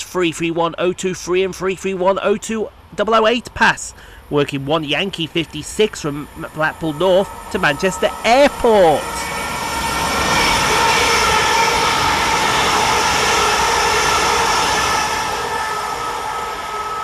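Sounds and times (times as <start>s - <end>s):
electric train whine: 0.0s - 17.0s
train wheels rushing on rails: 0.0s - 17.0s.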